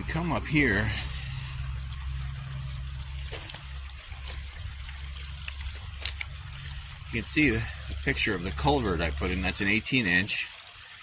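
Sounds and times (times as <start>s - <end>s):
low steady rumble: 0.0s - 11.0s
water trickling into a pipe: 0.0s - 11.0s.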